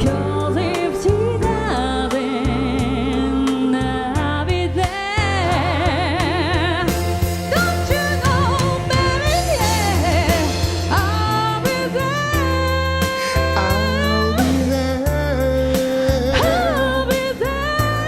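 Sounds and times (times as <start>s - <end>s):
person singing ballad with vibrato: 0.0s - 18.0s
piano bass and beat: 0.0s - 18.0s.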